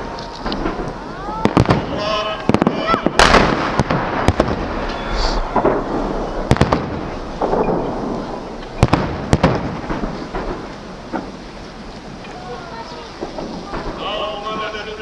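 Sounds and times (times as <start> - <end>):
rumbling echo: 0.0 - 12.2
firework shells bursting: 0.0 - 15.0
fireworks crackling: 0.0 - 15.0.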